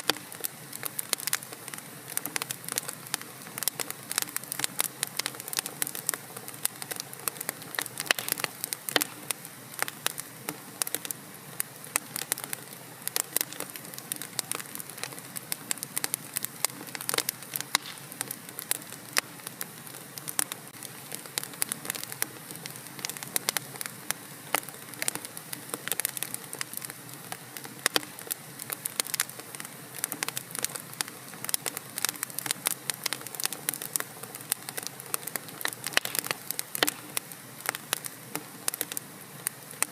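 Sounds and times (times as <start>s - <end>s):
fire crackling and popping: 0.0s - 39.9s
low hiss of fire: 0.0s - 39.9s.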